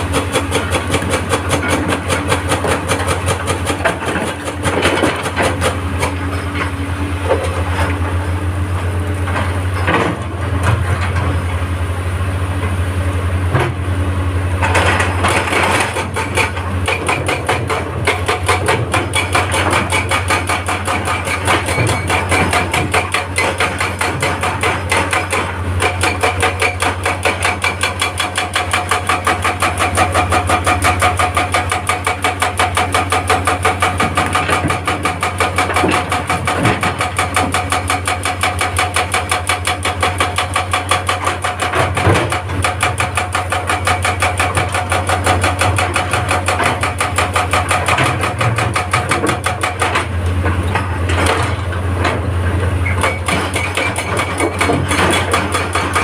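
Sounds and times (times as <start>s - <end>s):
hydraulic breaker hammering rock: 0.0s - 11.5s, 14.6s - 56.0s
diesel engine running: 0.0s - 56.0s.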